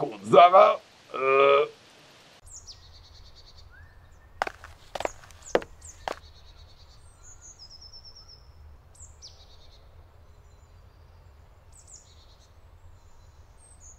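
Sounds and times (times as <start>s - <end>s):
songbirds singing: 2.4s - 13.9s.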